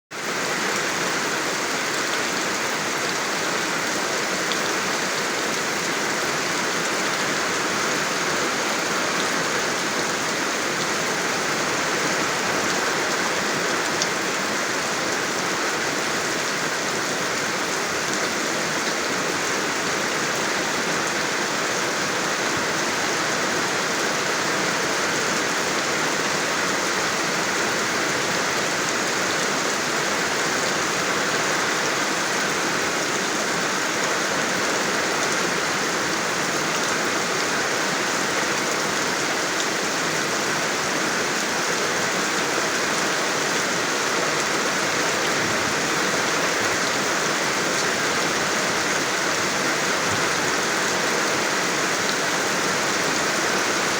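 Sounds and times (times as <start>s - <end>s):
steady rain falling: 0.1s - 53.9s.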